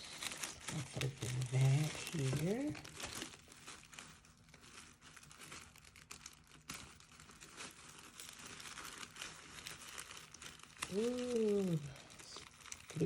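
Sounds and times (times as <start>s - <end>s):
wrapping paper crinkling: 0.0s - 13.0s.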